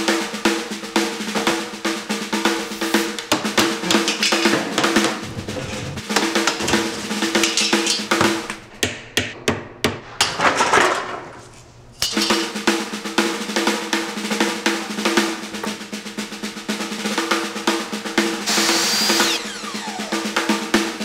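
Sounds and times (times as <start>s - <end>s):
snare drum hits and rolls: 0.0s - 8.7s, 12.1s - 21.0s.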